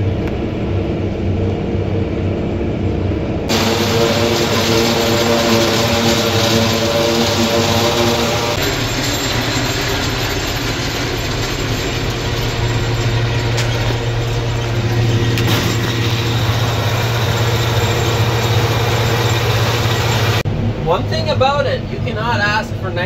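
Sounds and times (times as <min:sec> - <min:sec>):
tractor and forage harvester droning: 0:00.0 - 0:20.8.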